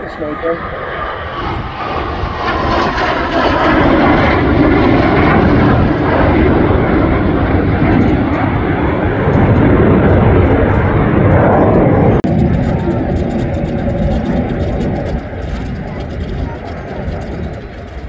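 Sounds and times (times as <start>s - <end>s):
jet aircraft passing overhead: 0.0s - 18.0s.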